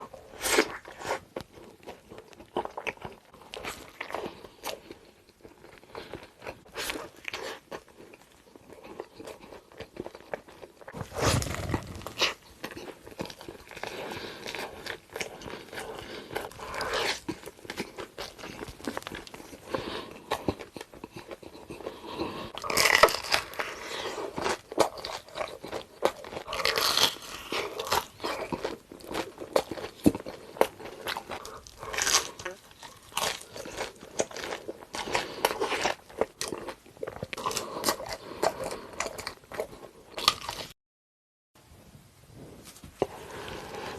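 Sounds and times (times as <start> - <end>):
person chewing a burger: 0.0 - 40.8.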